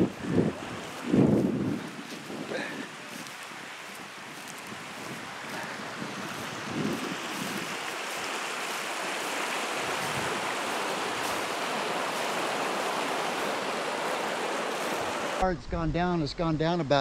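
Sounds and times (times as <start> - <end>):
stream water rushing: 0.0 - 15.4.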